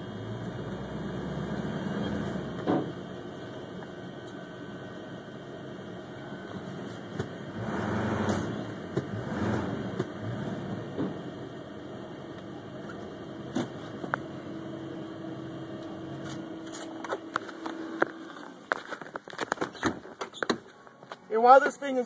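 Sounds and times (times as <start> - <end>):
truck engine idling: 0.0 - 19.4.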